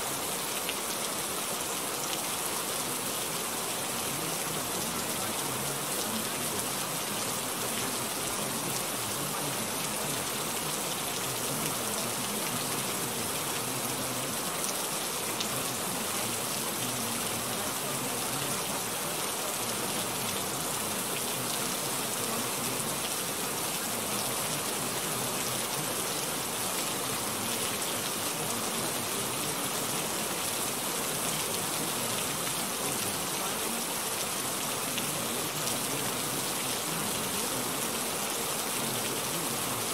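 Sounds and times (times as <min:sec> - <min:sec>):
steady rain-like hiss: 0:00.0 - 0:39.9.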